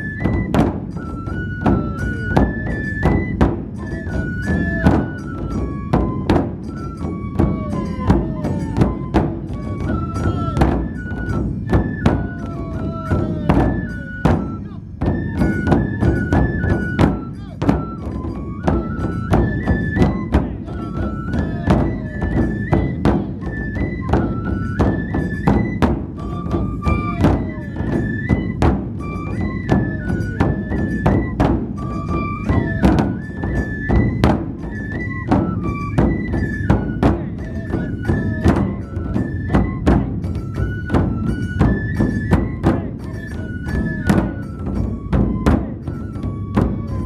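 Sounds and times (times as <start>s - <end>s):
bamboo flute melody: 0.0s - 47.0s
taiko drums beating: 0.0s - 47.0s.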